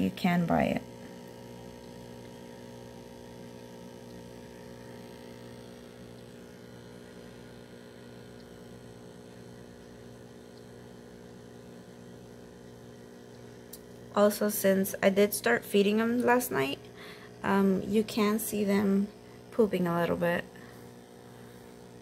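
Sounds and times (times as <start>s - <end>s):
aquarium air pump humming: 0.0s - 22.0s.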